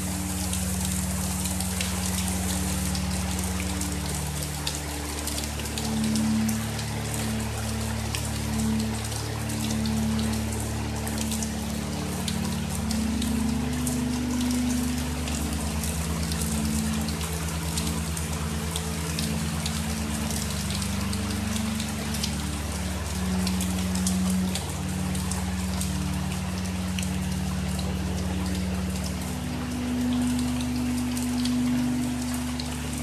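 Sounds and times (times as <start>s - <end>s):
low drone: 0.0s - 33.0s
rain falling: 0.0s - 33.0s
raindrops ticking on surfaces: 0.0s - 33.0s.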